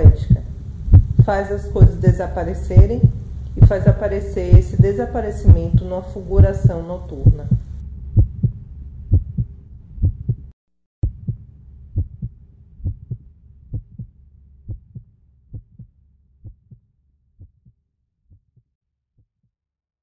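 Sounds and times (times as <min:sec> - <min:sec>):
heartbeat double thump: 0:00.0 - 0:11.4, 0:12.0 - 0:14.1, 0:14.7 - 0:16.8, 0:17.4 - 0:17.7
low hum: 0:00.0 - 0:16.8.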